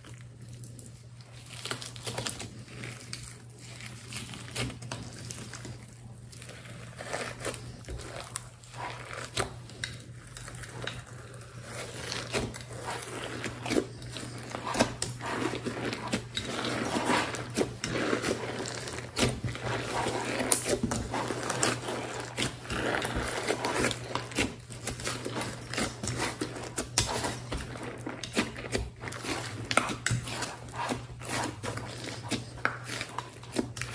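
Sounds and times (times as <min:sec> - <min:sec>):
slime squishing: 0:00.0 - 0:33.9.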